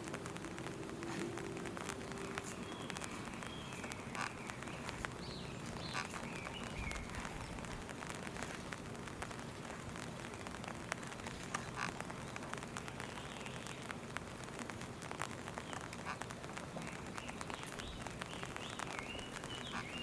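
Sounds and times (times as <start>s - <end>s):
raindrops ticking on surfaces: 0.0s - 20.0s
steady rain falling: 0.0s - 20.0s.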